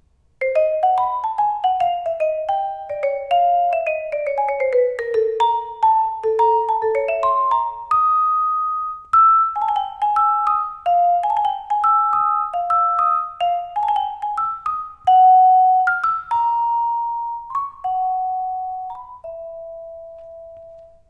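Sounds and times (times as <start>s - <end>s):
vibraphone melody: 0.4s - 21.0s.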